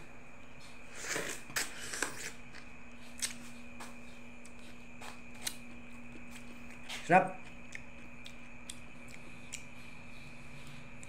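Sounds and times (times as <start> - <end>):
crunchy bite and chewing: 0.9 - 3.5, 4.4 - 11.0.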